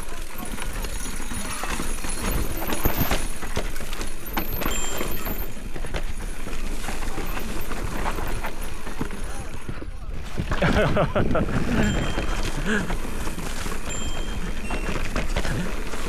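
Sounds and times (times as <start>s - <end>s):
bike knocking and rattling: 0.0s - 16.0s
tyres rumbling over dirt: 0.0s - 16.0s.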